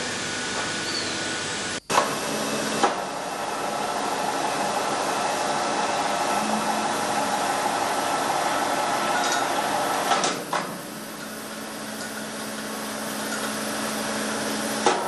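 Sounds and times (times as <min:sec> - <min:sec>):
air motor whirring: 0:00.0 - 0:15.0.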